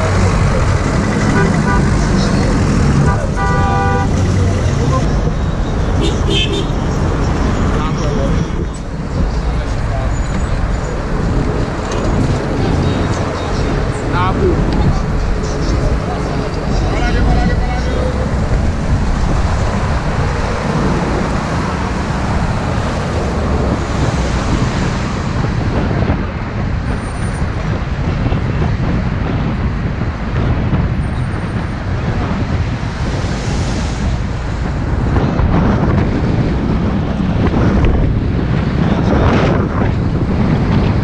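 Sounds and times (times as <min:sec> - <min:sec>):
bus engine and tyre rumble: 0:00.0 - 0:41.0
rushing air: 0:00.0 - 0:41.0.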